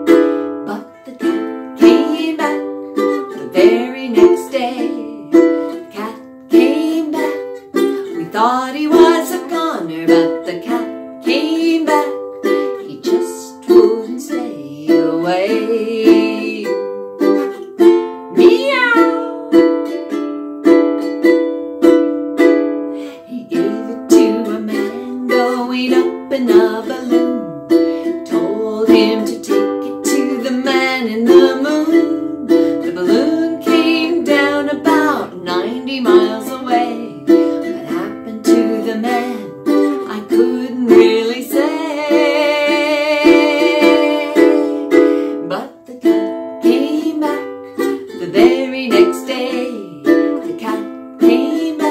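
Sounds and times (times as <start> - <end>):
ukulele strumming: 0.0 - 51.9
woman singing: 0.1 - 20.0, 22.9 - 51.9.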